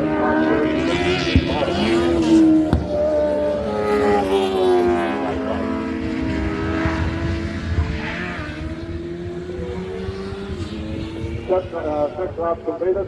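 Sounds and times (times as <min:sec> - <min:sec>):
racing engine passing at speed: 0:00.0 - 0:12.7.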